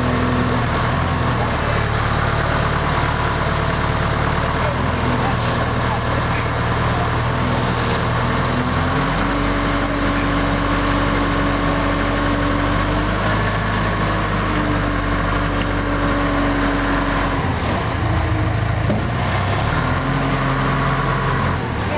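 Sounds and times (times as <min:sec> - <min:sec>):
loader engine running: 0:00.0 - 0:21.9.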